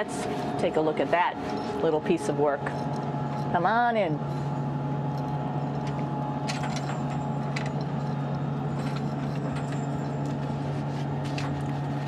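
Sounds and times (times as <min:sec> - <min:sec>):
ventilation fans humming: 0:00.0 - 0:12.0.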